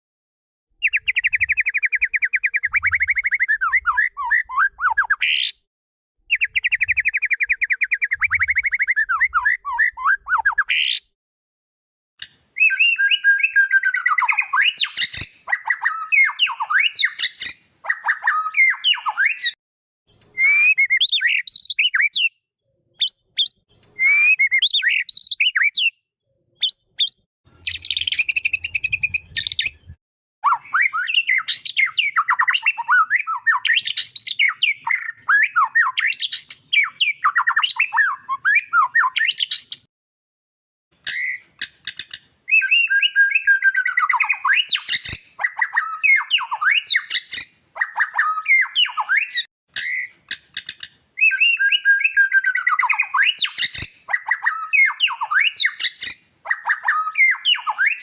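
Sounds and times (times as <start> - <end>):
bird singing whistled phrases: 0.8 - 5.6, 6.3 - 11.1, 12.5 - 19.6, 20.3 - 22.4, 23.0 - 26.0, 26.6 - 39.9, 41.1 - 50.1, 51.2 - 58.0.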